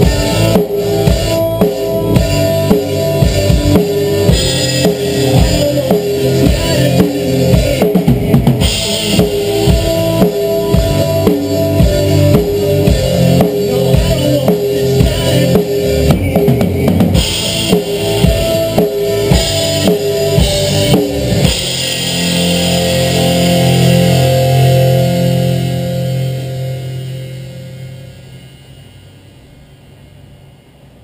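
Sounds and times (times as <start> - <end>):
country song: 0.0 - 25.7
acoustic drum kit playing: 0.0 - 28.9.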